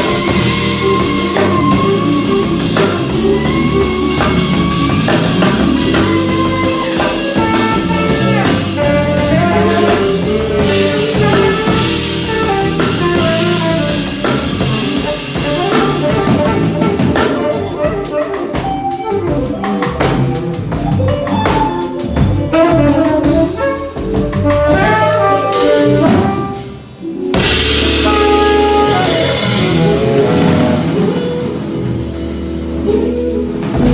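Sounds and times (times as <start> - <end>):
bass guitar: 0.0 - 33.9
drum kit: 0.0 - 33.9
melodic lead line: 0.0 - 33.9.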